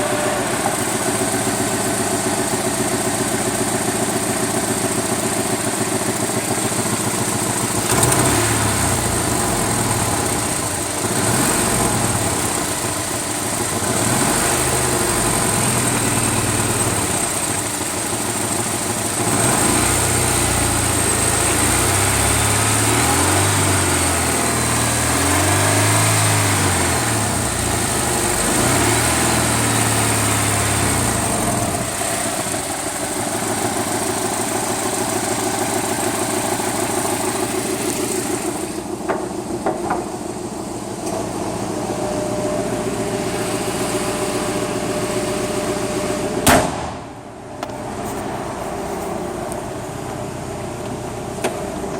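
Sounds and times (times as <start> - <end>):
engine ticking: 0.0 - 46.6
vehicle engine running: 0.0 - 51.9.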